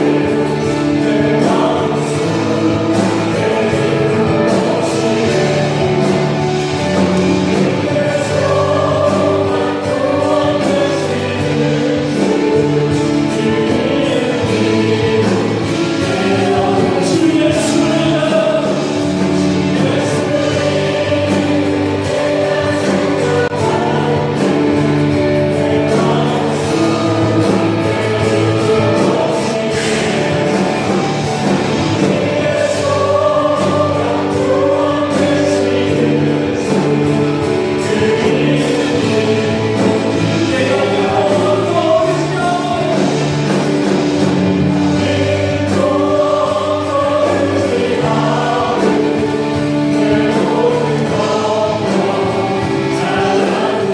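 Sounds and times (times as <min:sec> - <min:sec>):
group singing worship song: 0:00.0 - 0:53.9
instrumental accompaniment low notes: 0:00.0 - 0:53.9.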